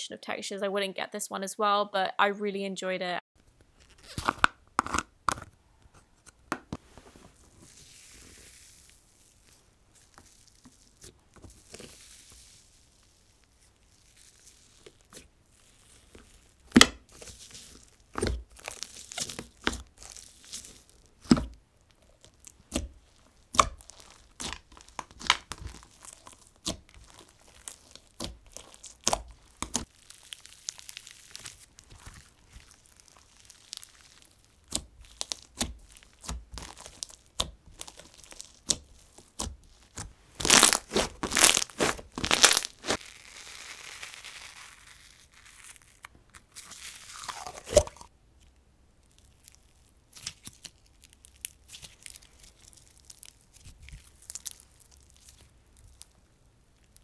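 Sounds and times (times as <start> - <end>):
slime crackling and popping: 3.6 - 5.5, 7.6 - 57.0.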